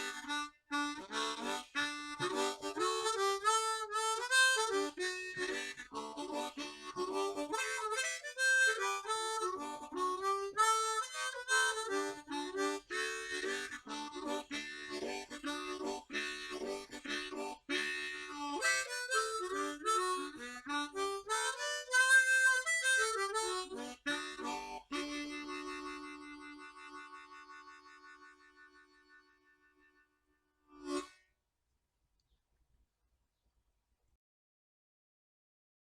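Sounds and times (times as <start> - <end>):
harmonica melody: 0.0 - 31.2.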